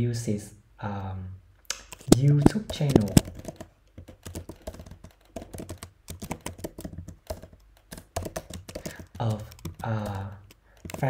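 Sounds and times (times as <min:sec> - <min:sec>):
computer keyboard typing: 0:01.7 - 0:11.0.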